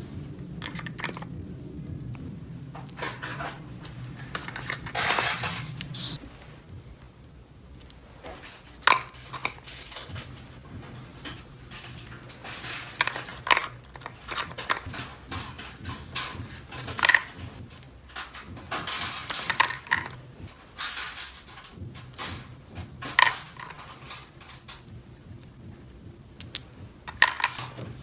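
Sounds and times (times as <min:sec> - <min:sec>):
plastic toy pieces clattering: 0:00.6 - 0:01.4, 0:02.8 - 0:06.2, 0:08.3 - 0:25.5, 0:26.4 - 0:28.0.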